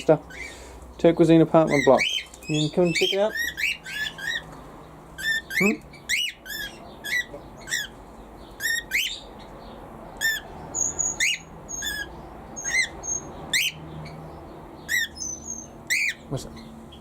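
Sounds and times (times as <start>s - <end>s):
birds sharp calls: 0.0s - 17.0s.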